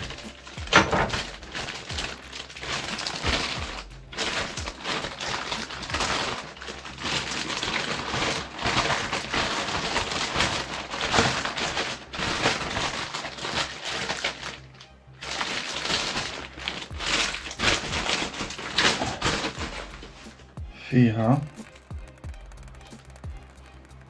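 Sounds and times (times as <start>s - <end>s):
plastic bag crinkling: 0.0s - 20.6s.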